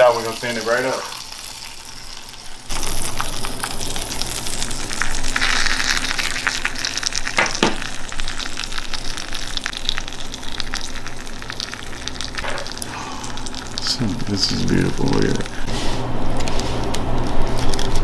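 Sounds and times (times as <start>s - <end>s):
food sizzling in hot pan: 0.0s - 15.9s.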